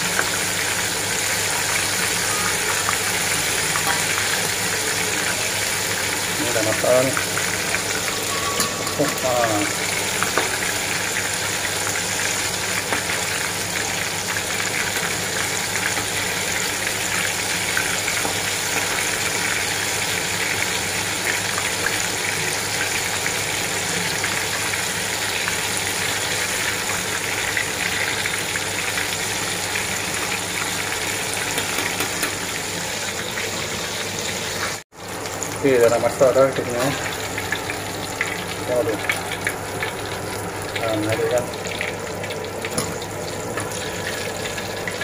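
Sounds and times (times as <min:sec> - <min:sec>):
squid deep-frying in hot oil: 0:00.0 - 0:45.0.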